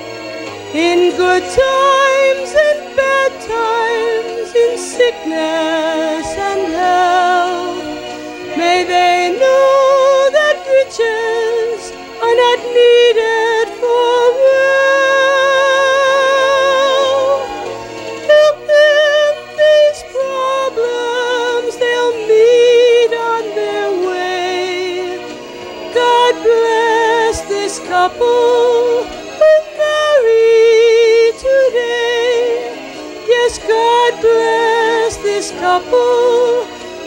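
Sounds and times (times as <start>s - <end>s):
woman singing into a microphone: 0.7s - 7.8s, 8.5s - 17.6s, 18.3s - 25.2s, 25.9s - 36.7s.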